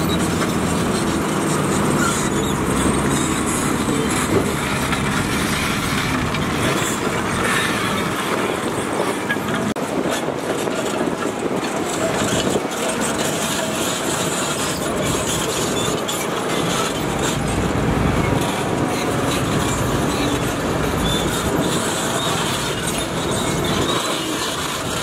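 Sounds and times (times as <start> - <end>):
heavy construction machinery running: 0.0 - 25.0.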